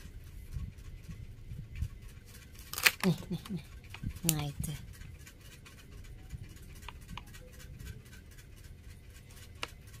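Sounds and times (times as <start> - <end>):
cat chewing food: 0.0 - 10.0.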